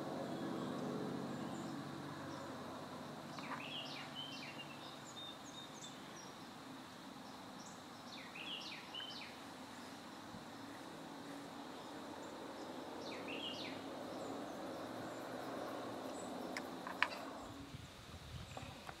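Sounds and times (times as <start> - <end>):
open field ambience hiss: 0.0 - 19.0
songbird singing: 0.0 - 19.0.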